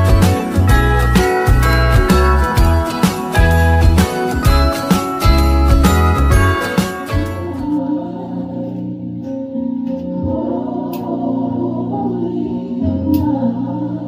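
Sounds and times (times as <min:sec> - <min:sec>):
dull music from record player: 0:00.0 - 0:14.0.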